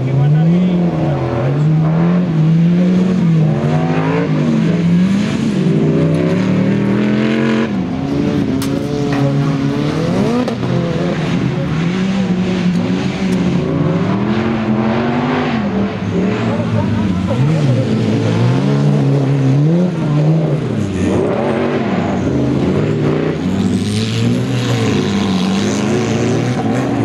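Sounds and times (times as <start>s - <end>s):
race car engines revving: 0.0s - 27.0s.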